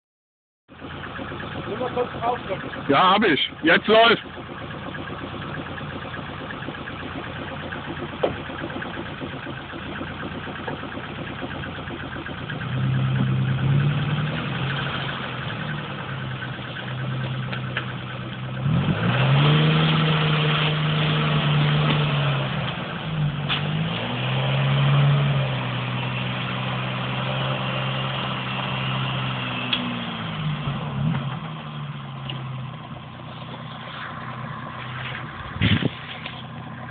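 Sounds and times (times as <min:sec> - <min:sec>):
engine idling and revving: 0:00.7 - 0:36.9.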